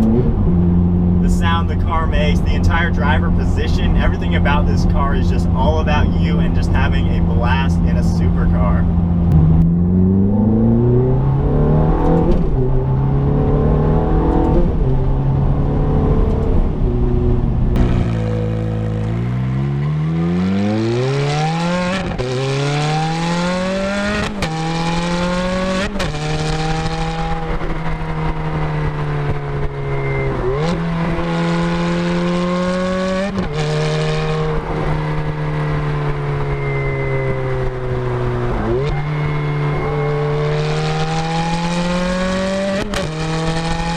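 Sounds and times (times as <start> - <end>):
sports car engine accelerating: 0.0 - 43.9.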